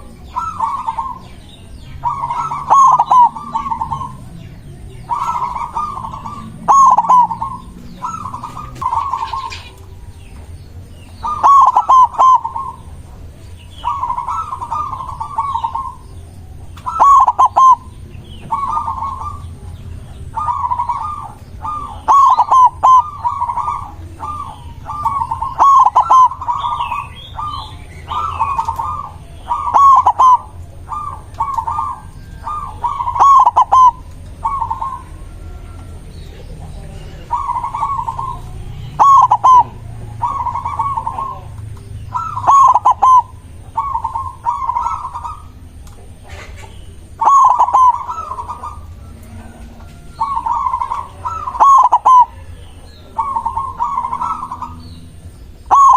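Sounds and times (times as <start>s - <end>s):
dove cooing: 0.0s - 55.9s
small birds chirping: 0.0s - 55.9s.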